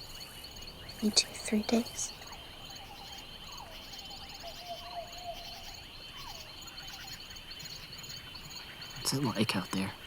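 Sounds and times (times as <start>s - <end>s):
crickets and insects chirring: 0.0s - 10.0s.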